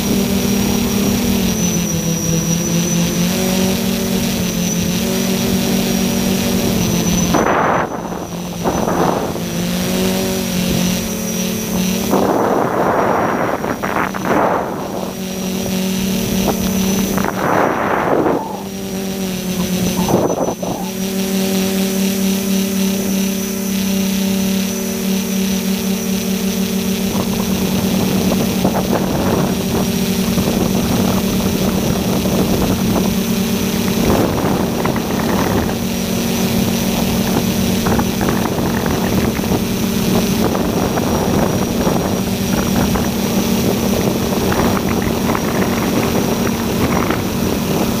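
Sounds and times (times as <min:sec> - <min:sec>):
drone motors buzzing: 0:00.0 - 0:48.0.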